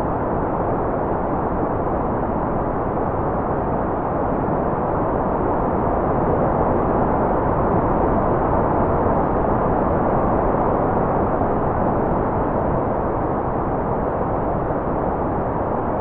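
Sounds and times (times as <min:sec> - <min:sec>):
steady white noise rush: 0:00.0 - 0:16.0.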